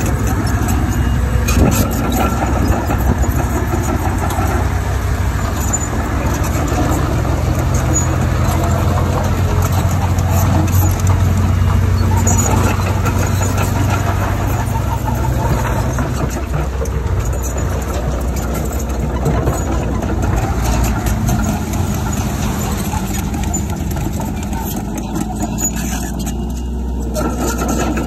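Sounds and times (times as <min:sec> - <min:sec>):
heavy diesel engine running: 0:00.0 - 0:28.0
clicks and rattles: 0:05.5 - 0:28.0.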